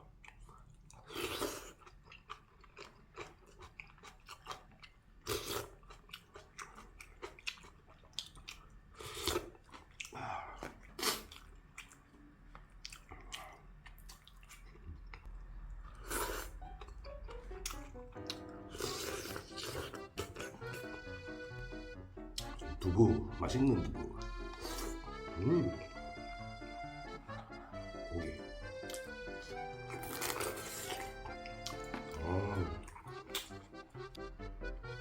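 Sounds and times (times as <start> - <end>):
person chewing with mouth sounds: 0.0 - 21.0, 24.1 - 26.2, 27.0 - 34.3.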